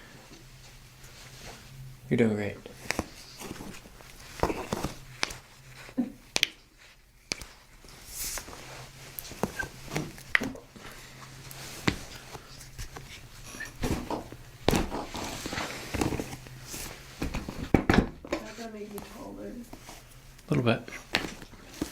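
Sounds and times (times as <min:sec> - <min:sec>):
soft rustling: 0:00.0 - 0:17.7, 0:18.3 - 0:21.9.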